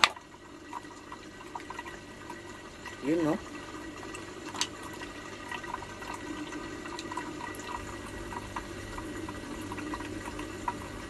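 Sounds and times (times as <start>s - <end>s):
aquarium filter trickling: 0.0s - 11.0s.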